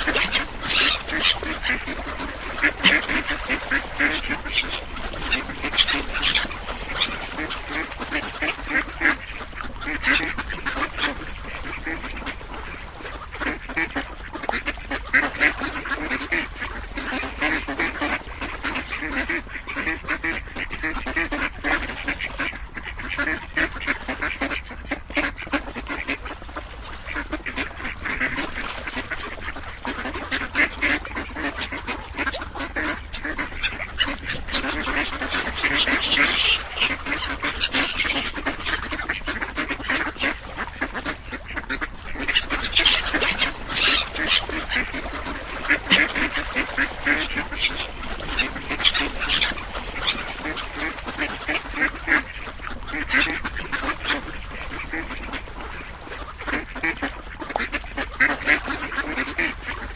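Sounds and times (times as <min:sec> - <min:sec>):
ducks quacking: 0:00.0 - 0:59.9.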